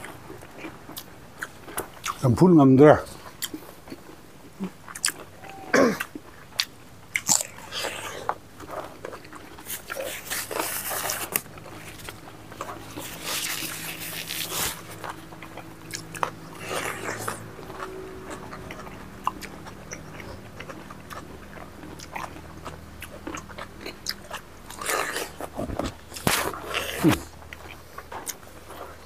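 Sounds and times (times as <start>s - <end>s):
people chewing and biting: 0.0s - 2.2s, 3.0s - 29.0s
faint low hum: 0.0s - 29.0s.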